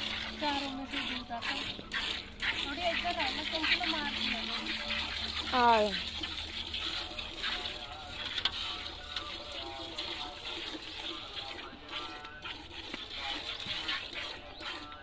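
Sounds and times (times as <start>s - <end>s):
milk squirting into steel bucket: 0.0s - 15.0s.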